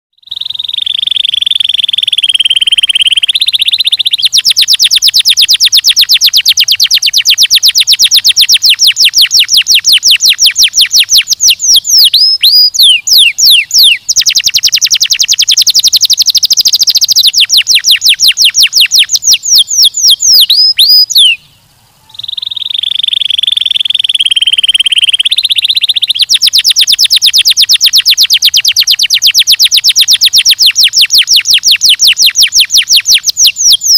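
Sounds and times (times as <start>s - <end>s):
canary singing trills: 0.1s - 33.9s.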